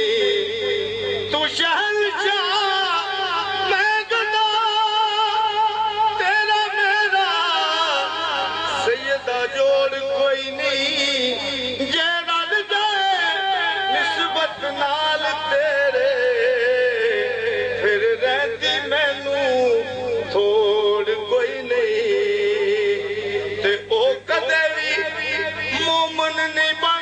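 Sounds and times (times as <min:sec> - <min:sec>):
faint steady hum: 0:00.0 - 0:27.0
man singing through loudspeaker: 0:00.0 - 0:27.0.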